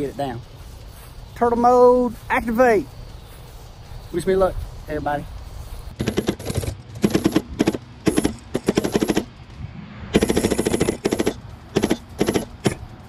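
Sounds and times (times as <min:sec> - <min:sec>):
drone motors rattling bursts: 0:00.0 - 0:13.0.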